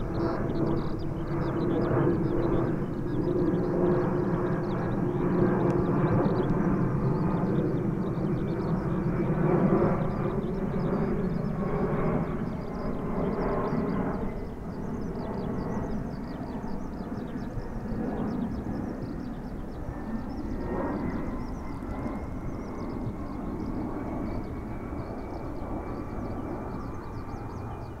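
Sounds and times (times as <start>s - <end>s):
jet engines rumbling with whine: 0.0s - 28.0s.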